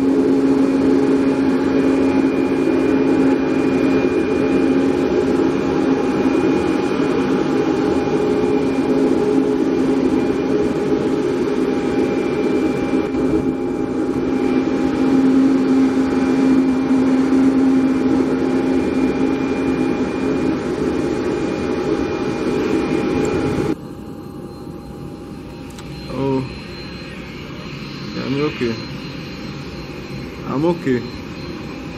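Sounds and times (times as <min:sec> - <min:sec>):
turboprop engine at takeoff power: 0:00.0 - 0:31.9.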